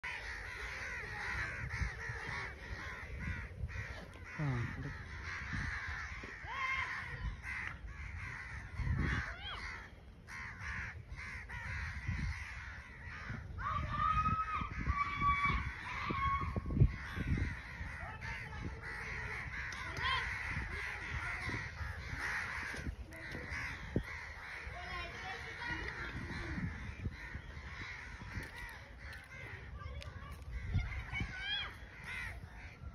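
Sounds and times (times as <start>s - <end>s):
crows cawing: 0.0s - 32.9s.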